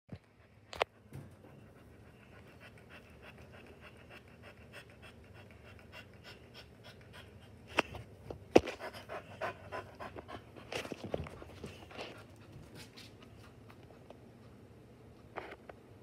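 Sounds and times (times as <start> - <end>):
dog panting: 0.4 - 8.1, 8.7 - 14.0.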